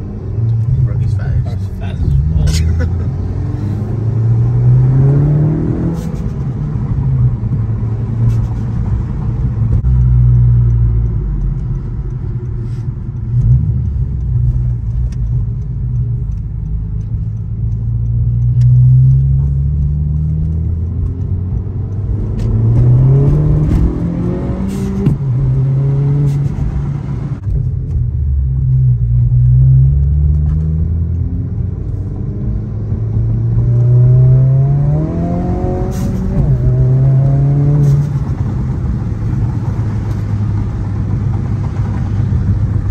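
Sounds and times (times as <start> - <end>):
car engine and exhaust accelerating: 0.0 - 42.9.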